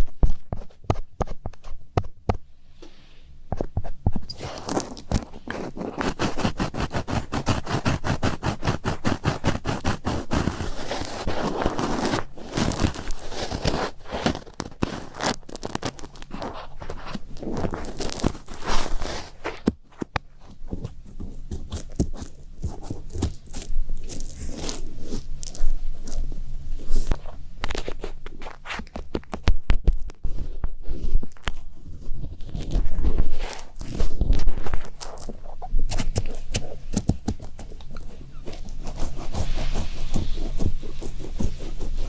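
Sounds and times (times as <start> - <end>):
crackling scratching clicks: 3.5 - 42.0.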